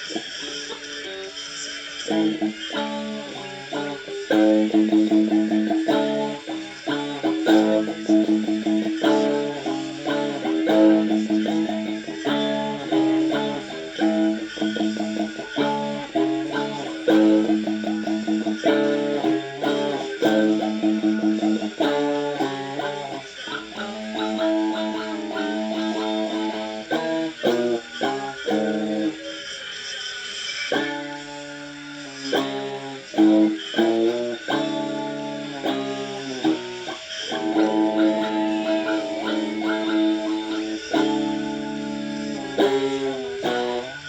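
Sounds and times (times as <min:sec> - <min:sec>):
guitar strumming chords: 0:00.0 - 0:29.6, 0:30.6 - 0:44.0.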